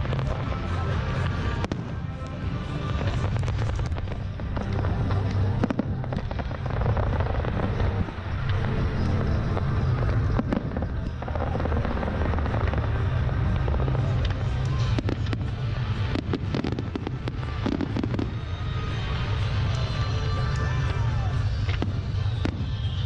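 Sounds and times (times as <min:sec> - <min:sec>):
fireworks banging and crackling: 0:00.0 - 0:23.0
music with steady bass: 0:00.0 - 0:23.0.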